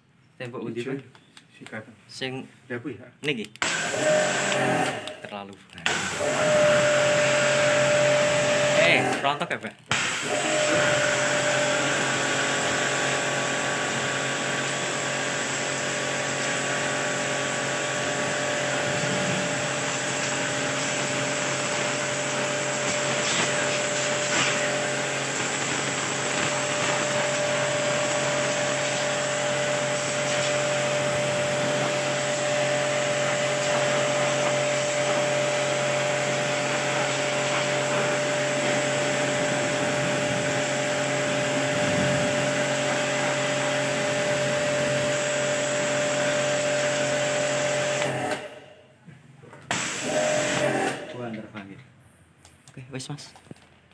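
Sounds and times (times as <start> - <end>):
water jet spraying: 3.6 - 9.3, 9.9 - 48.3, 49.7 - 51.0
pressure washer motor humming: 3.6 - 48.6, 49.7 - 51.2.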